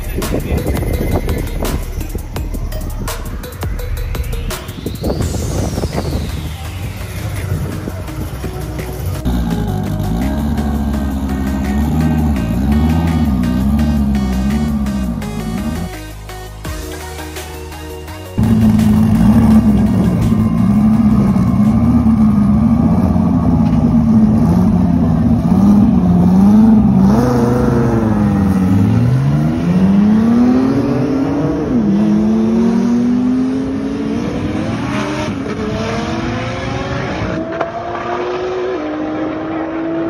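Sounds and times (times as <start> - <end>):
car engines revving: 0.0 - 16.0, 18.4 - 40.0
cars accelerating hard: 5.0 - 15.9, 18.4 - 40.0.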